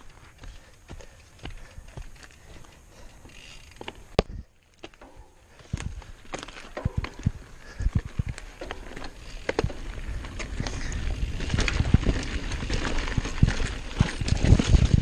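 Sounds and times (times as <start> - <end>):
bike knocks and rattles: 0.0 - 15.0
bike tyres rolling over dirt: 0.0 - 15.0.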